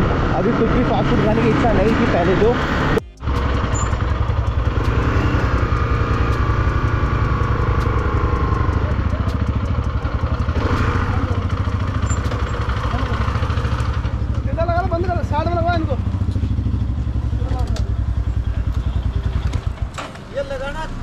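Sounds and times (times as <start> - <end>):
motorcycle engine at low speed: 0.0 - 21.0.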